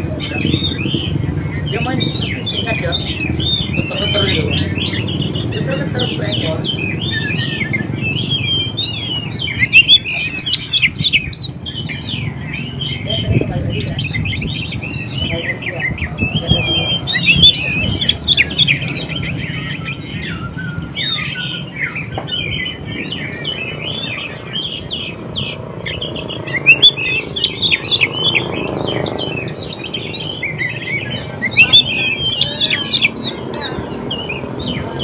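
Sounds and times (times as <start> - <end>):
bird singing chirps and whistles: 0.3 - 35.0.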